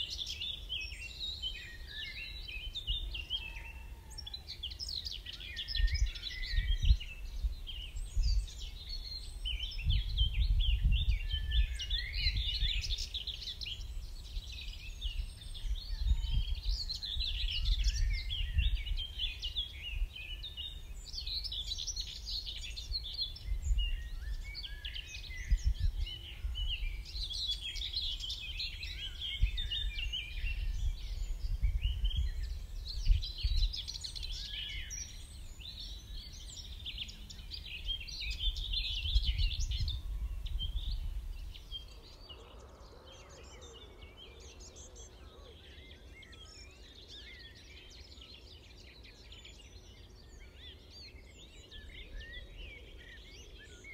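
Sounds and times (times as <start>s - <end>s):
wind rumbling on microphone: 0.0s - 45.5s
songbirds singing and chirping: 0.0s - 53.9s.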